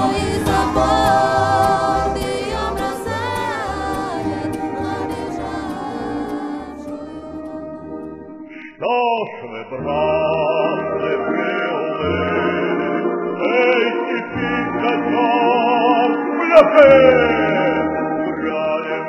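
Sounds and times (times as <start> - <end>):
male choir singing folk ballad: 0.0 - 7.8, 8.8 - 19.0.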